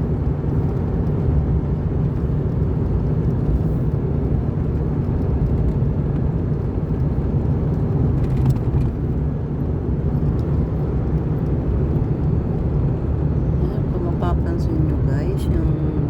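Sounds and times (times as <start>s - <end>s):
tyres and engine rumbling: 0.0s - 16.0s.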